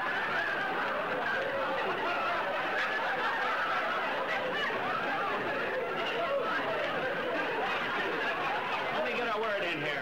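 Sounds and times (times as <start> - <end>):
audience laughing: 0.0 - 9.8.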